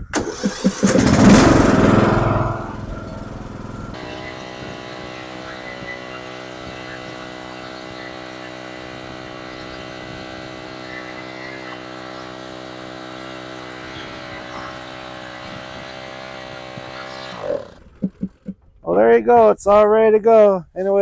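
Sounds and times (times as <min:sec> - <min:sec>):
riding mower engine running: 0:00.0 - 0:18.9.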